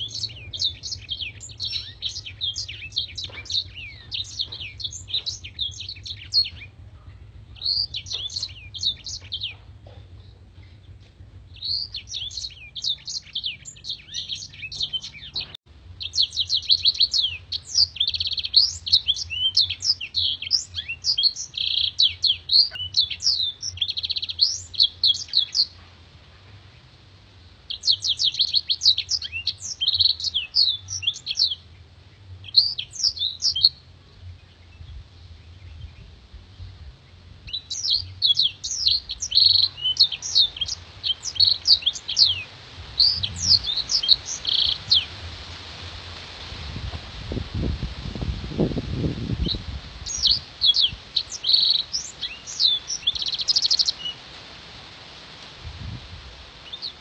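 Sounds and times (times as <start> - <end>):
canary singing high twittering song: 0.0 - 25.8, 27.7 - 45.2, 49.2 - 54.2.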